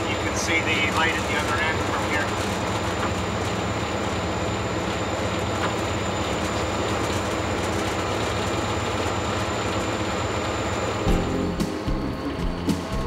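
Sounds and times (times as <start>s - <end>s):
locomotive engine drone: 0.0s - 13.0s
wheel and rail noise: 0.0s - 13.0s.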